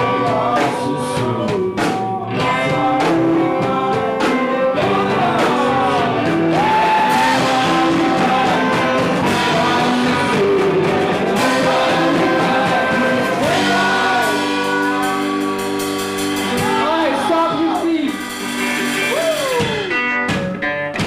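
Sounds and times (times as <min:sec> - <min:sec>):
person singing: 0:00.0 - 0:20.1
drums: 0:00.0 - 0:21.0
guitars: 0:00.0 - 0:21.0.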